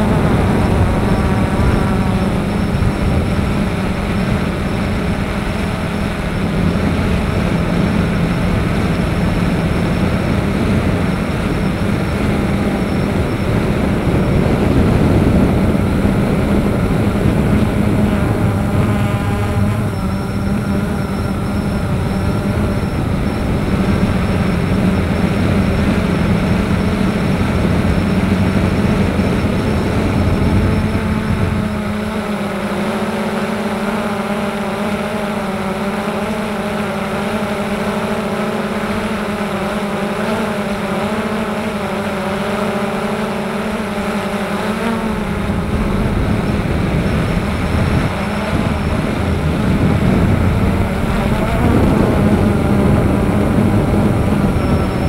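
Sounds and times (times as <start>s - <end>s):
drone motors whirring: 0.0s - 55.0s
wind rushing over microphone: 0.0s - 55.0s.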